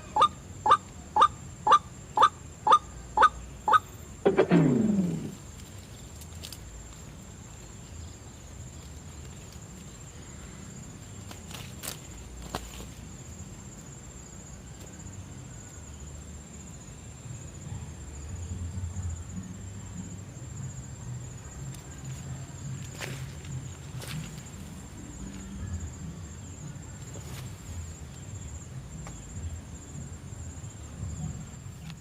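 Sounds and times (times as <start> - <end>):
insect chirring: 0.0 - 32.0.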